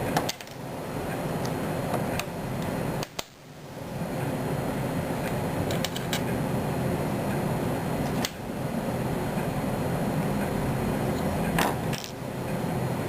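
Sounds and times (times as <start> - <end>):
fan-like background noise: 0.0 - 13.0.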